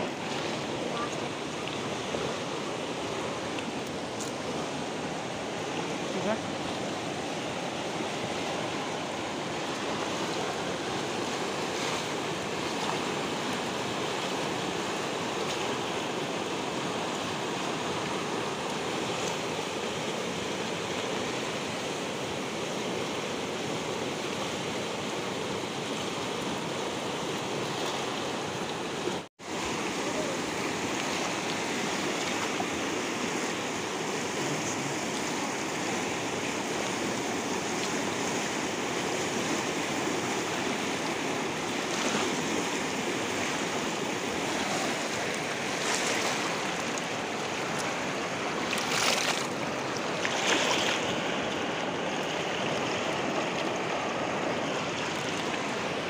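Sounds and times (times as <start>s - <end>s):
fast-flowing river rushing: 0.0s - 56.0s.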